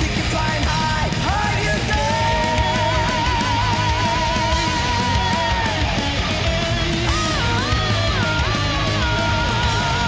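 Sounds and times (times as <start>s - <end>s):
live heavy metal band: 0.0s - 10.0s.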